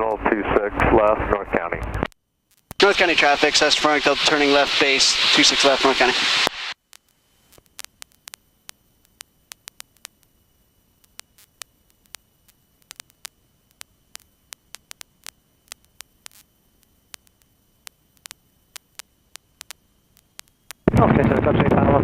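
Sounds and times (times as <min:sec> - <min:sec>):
static clicks and crackles: 0:00.0 - 0:22.0.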